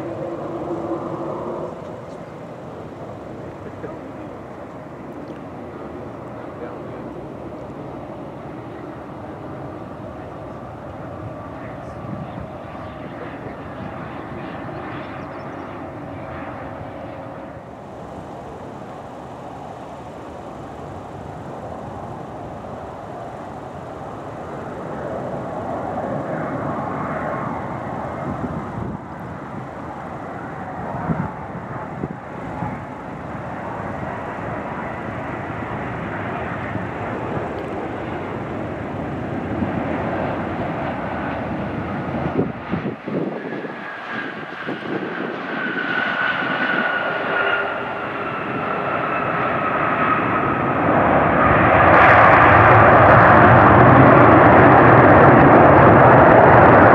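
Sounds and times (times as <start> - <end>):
airliner jet engines roaring: 0.0 - 56.9
small jet turbofan whining: 0.0 - 56.9.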